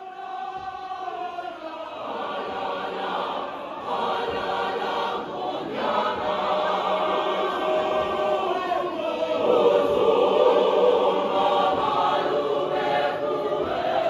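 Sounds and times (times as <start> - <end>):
mixed choir singing in harmony: 0.0 - 14.0.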